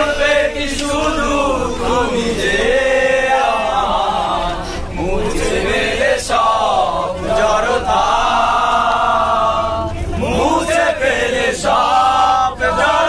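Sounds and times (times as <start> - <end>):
men singing in chorus: 0.0 - 13.0.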